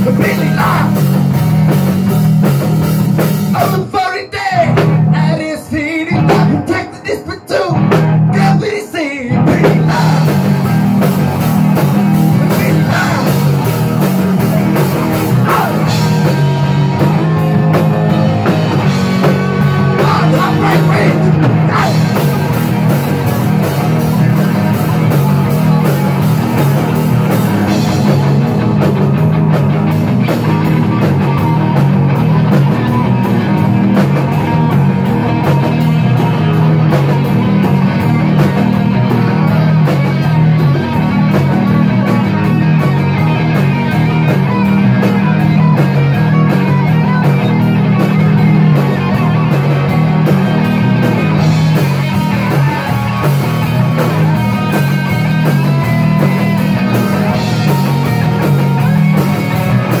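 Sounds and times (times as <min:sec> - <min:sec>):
drum kit beat: 0:00.0 - 0:08.7, 0:09.3 - 1:00.0
bass guitar: 0:00.0 - 1:00.0
electric guitars: 0:00.0 - 1:00.0.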